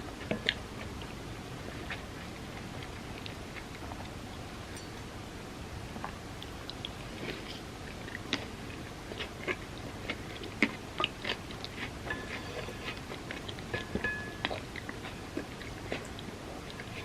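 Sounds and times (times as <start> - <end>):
chewing with mouth clicks: 0.1 - 4.2, 6.0 - 17.0.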